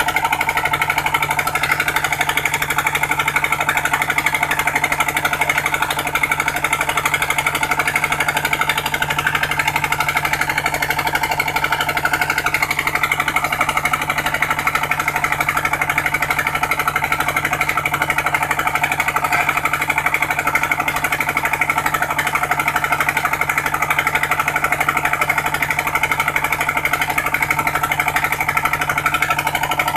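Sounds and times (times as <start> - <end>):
pump engine pulsing: 0.0 - 29.9.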